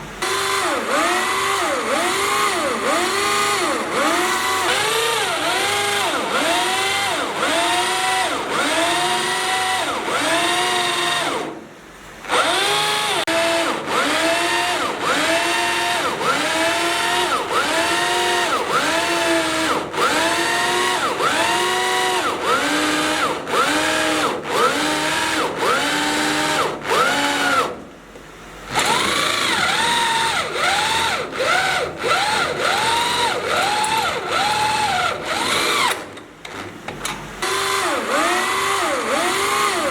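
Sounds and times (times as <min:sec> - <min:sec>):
power drill drilling into steel: 0:00.2 - 0:11.6, 0:12.3 - 0:27.8, 0:28.7 - 0:36.6, 0:37.4 - 0:39.9.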